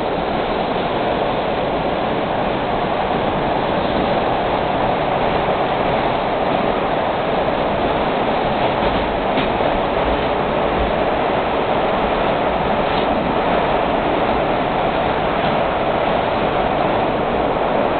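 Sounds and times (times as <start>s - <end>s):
subway car motors: 0.0s - 17.9s
subway car wheels on rails: 0.0s - 17.9s.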